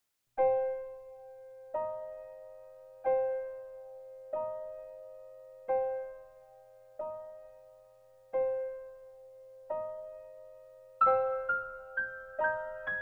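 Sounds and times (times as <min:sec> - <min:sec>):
gentle piano chords: 0:00.4 - 0:13.0.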